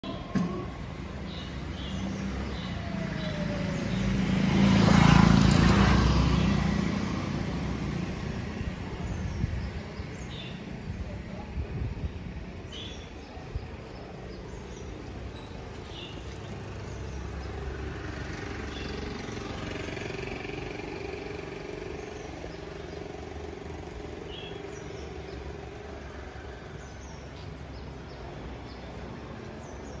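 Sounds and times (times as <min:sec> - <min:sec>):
road traffic rumbling: 0:00.0 - 0:30.0.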